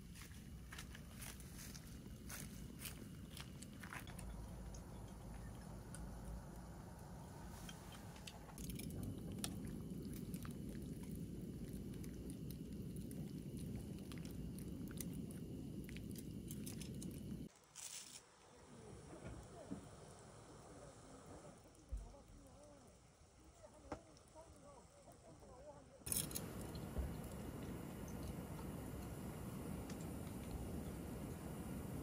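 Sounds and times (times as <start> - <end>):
clams cooking with crackles: 0.0 - 32.0.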